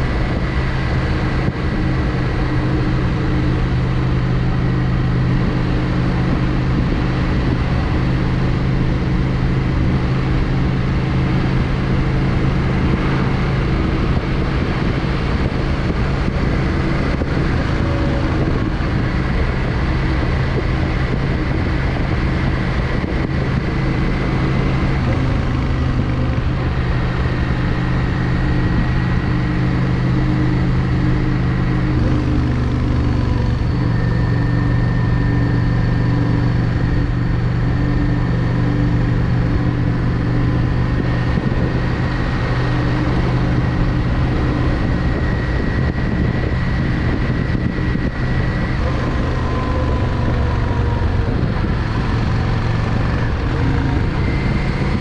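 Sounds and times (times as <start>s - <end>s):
motorcycle engine cruising: 0.0s - 55.0s
steady rush of noise: 0.0s - 55.0s.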